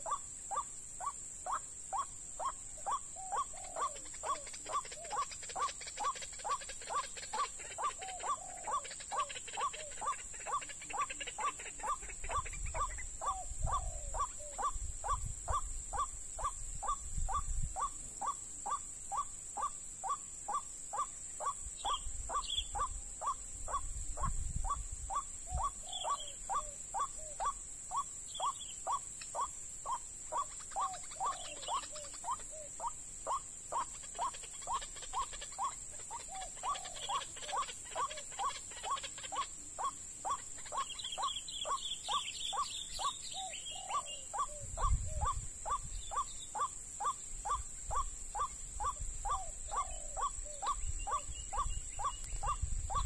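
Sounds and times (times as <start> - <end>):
steady high hiss: 0.0 - 53.0.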